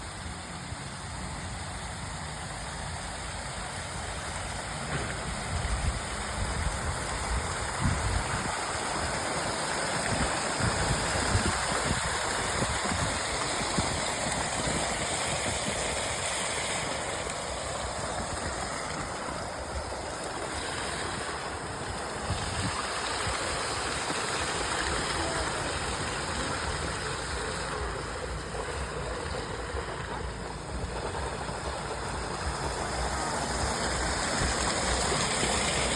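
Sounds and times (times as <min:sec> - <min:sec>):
splashing water rushing: 0:00.0 - 0:35.9.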